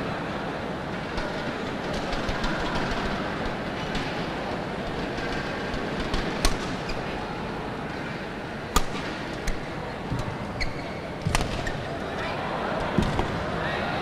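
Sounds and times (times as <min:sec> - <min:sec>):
crowd hum: 0:00.0 - 0:14.0.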